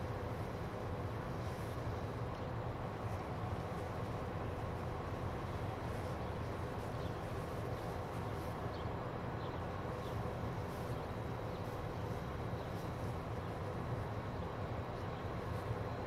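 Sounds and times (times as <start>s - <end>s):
small birds chirping: 1.3s - 16.0s.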